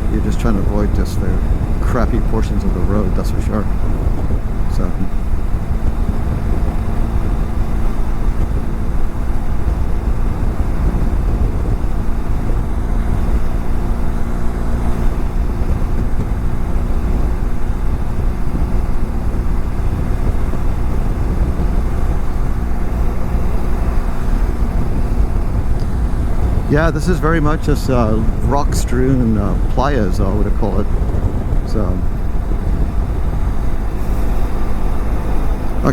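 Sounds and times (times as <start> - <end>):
motorcycle engine humming: 0.0 - 35.9
wind rushing over microphone: 0.0 - 35.9.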